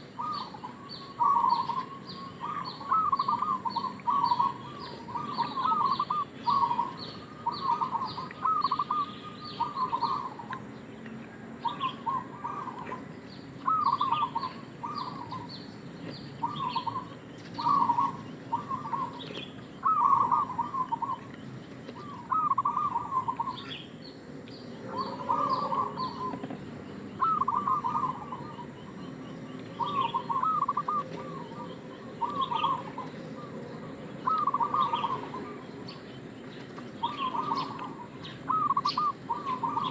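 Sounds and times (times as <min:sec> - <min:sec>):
dove cooing: 0:00.0 - 0:24.1, 0:24.7 - 0:39.9.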